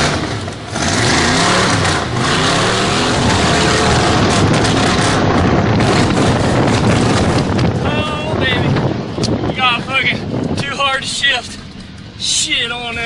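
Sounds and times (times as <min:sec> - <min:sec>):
loud rushing noise: 0:00.0 - 0:10.6
truck engine revving: 0:00.0 - 0:12.4.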